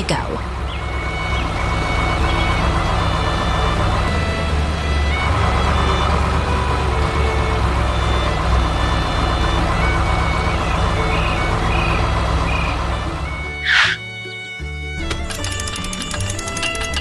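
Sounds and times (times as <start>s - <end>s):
heavy machinery engine rumble: 0.0s - 14.1s, 14.8s - 17.0s.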